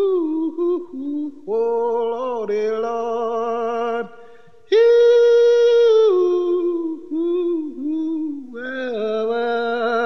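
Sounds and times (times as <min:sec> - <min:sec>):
person singing wordlessly: 0:00.0 - 0:04.1, 0:04.7 - 0:10.0.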